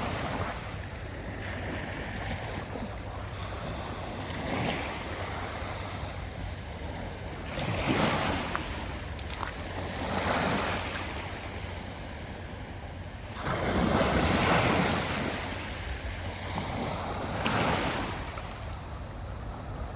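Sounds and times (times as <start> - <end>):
surf rushing: 0.0 - 19.9
waves breaking on shore: 0.0 - 19.9.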